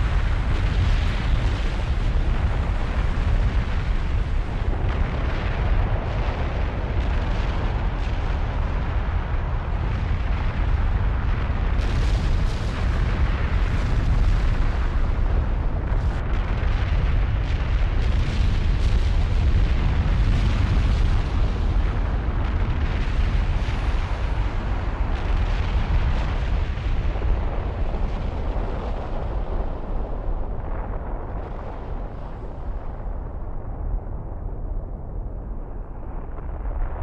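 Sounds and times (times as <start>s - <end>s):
crackling and popping: 0.0s - 37.0s
volcano deep rumble: 0.0s - 37.0s.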